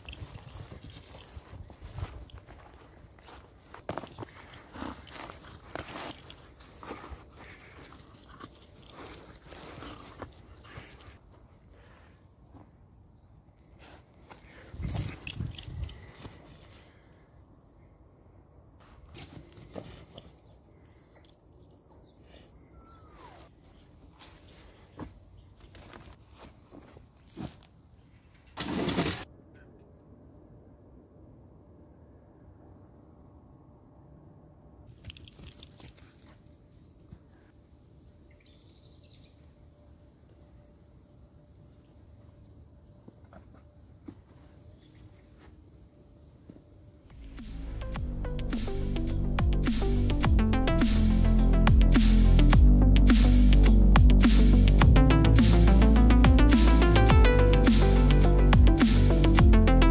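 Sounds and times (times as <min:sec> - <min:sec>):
faint outdoor ambience: 0:00.0 - 0:59.9.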